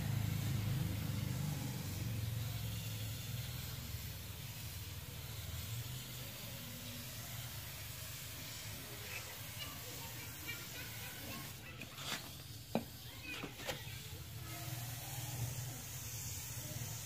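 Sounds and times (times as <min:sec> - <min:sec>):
aerosol spray can hissing: 0:00.0 - 0:17.0.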